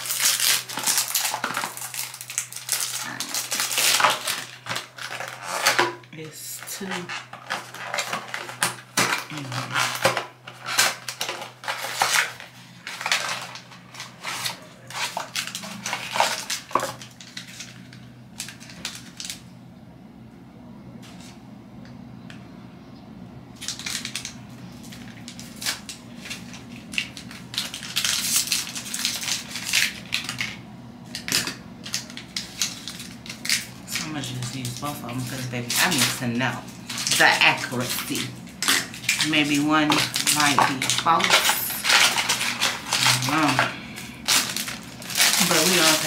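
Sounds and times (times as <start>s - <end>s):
packaging crinkling and tearing: 0.0s - 19.4s, 23.6s - 46.0s.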